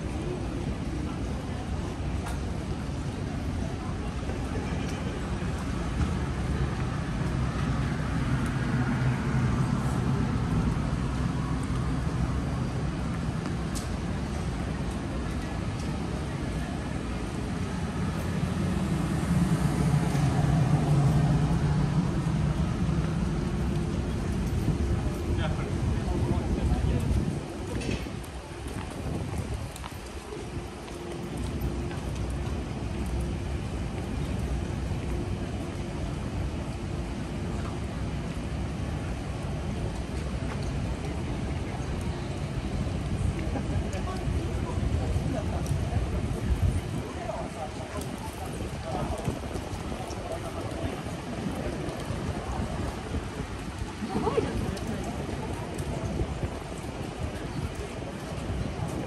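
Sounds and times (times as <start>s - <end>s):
road noise: 0.0s - 59.0s
traffic noise: 0.0s - 59.0s
rain hiss: 0.2s - 59.0s.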